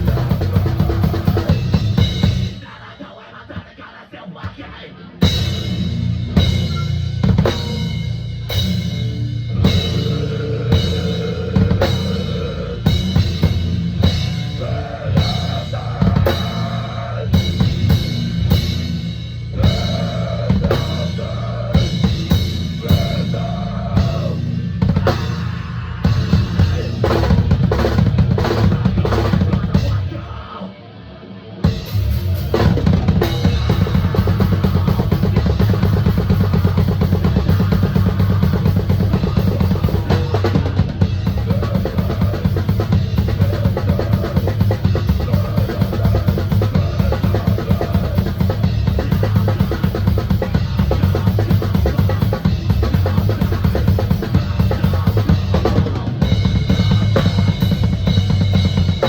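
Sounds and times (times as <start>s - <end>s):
metal band playing: 0.0s - 3.5s, 5.2s - 59.0s.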